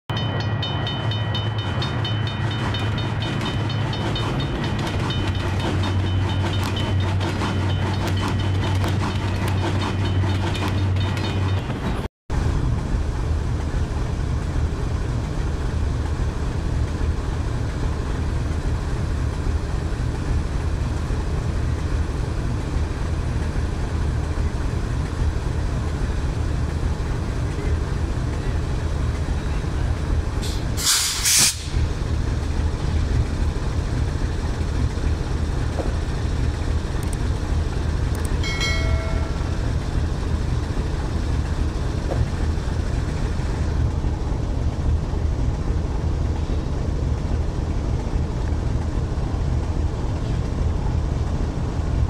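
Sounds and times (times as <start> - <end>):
diesel engine drone: 0.1 - 52.0.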